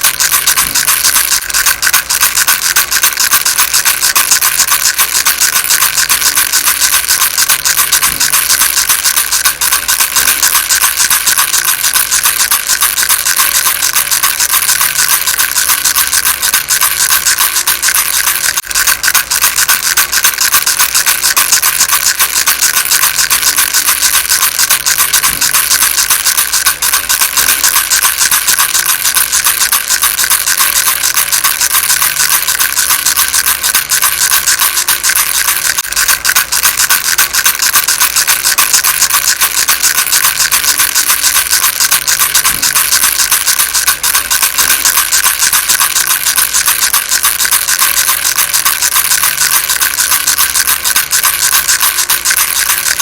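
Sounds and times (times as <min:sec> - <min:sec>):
baby rattle shaking: 0:00.0 - 0:53.0.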